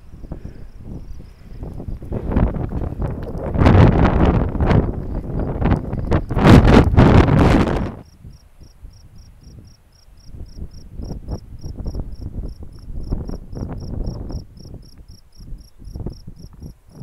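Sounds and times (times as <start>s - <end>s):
insect chirping: 0.0s - 7.2s, 8.0s - 17.0s
wind on microphone: 0.0s - 17.0s.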